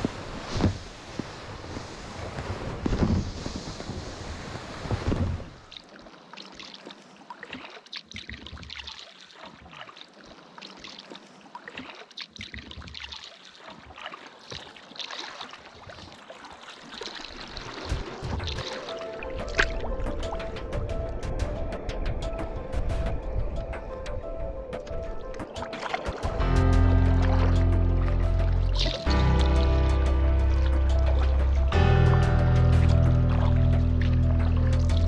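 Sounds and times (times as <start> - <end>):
water splashing and trickling: 0.0 - 35.0.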